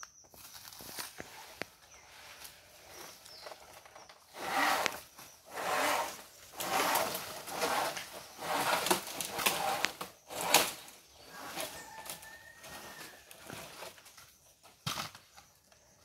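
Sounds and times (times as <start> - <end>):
rustling dry leaves: 0.3 - 14.2.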